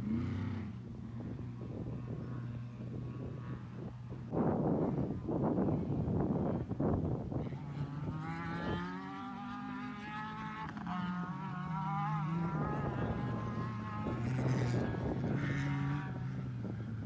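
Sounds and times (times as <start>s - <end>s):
buggy engine running hard: 0.0s - 17.0s.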